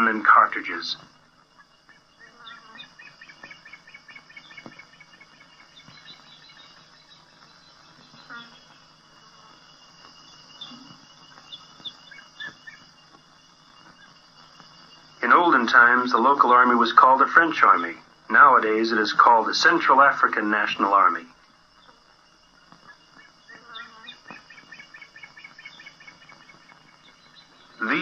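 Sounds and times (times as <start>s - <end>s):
low hiss: 0.0s - 28.0s
small animals chirping: 0.0s - 28.0s.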